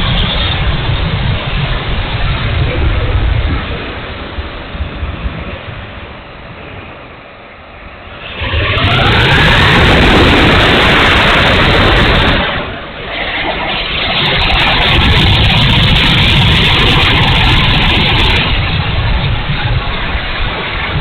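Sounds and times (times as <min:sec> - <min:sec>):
electric ducted fan whoosh: 0:00.0 - 0:21.0.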